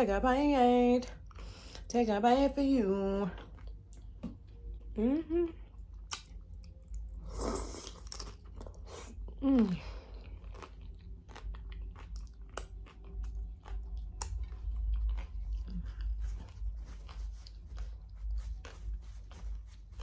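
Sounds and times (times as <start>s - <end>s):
chewing crunchy tostada shell: 3.3s - 20.0s.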